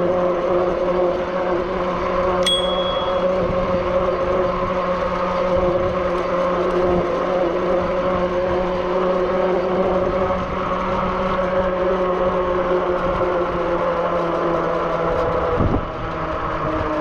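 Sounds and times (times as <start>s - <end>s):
electric bike motor whining: 0.0s - 2.4s, 3.3s - 17.0s.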